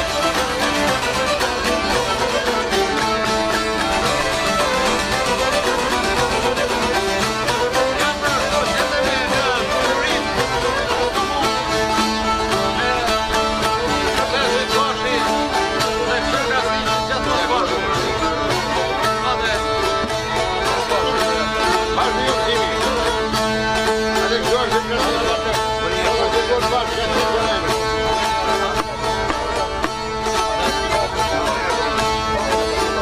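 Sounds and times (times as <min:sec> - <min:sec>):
accordion: 0:00.0 - 0:33.0
plucked lutes: 0:00.0 - 0:33.0.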